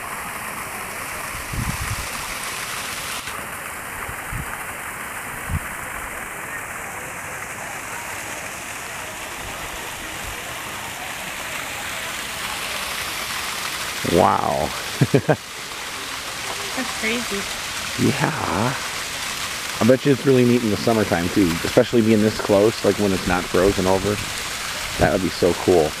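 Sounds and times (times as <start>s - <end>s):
rushing hiss of waterfall: 0.0s - 26.0s.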